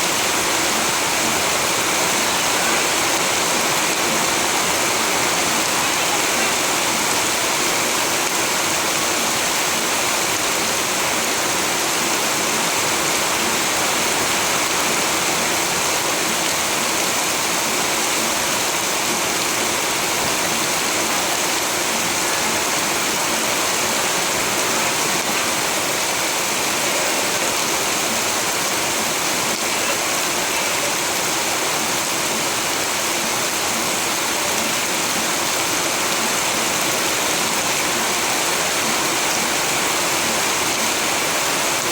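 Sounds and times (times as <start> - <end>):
steady rainfall: 0.0 - 41.9.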